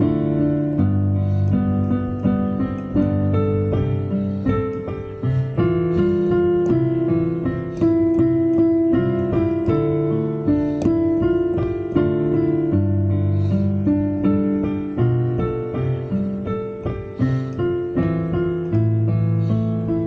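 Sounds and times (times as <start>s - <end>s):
digital piano chords and melody: 0.0s - 20.0s.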